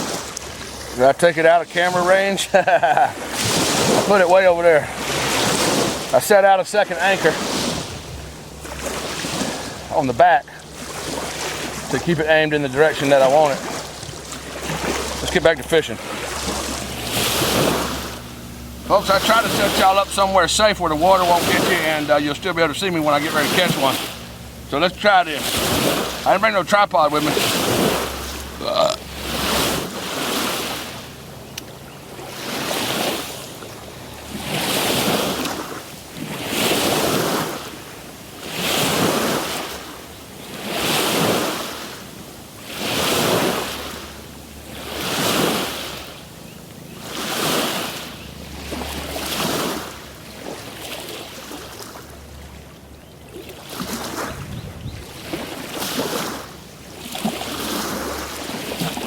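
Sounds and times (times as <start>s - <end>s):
small waves washing on shore: 0.0s - 59.0s.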